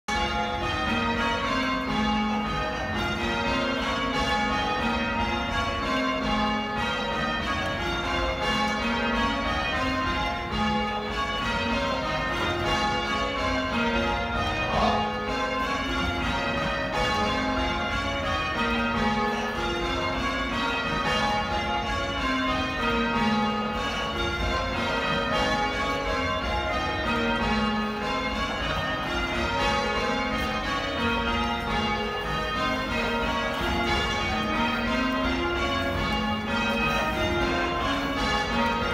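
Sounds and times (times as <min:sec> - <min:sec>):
church bells change ringing: 0:00.1 - 0:38.9.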